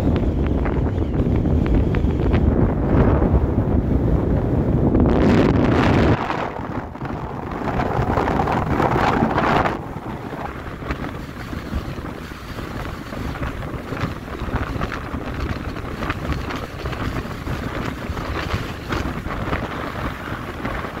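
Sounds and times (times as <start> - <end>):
gusting wind on microphone: 0.0 - 21.0.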